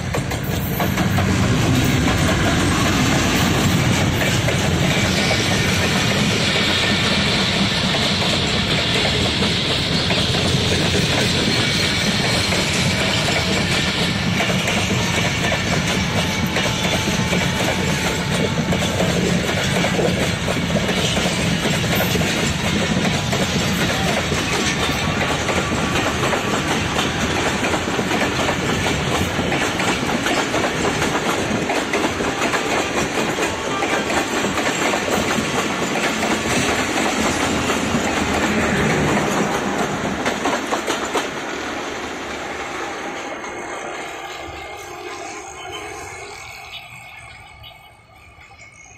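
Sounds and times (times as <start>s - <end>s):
train wheels clattering over rail joints: 0.0s - 43.5s.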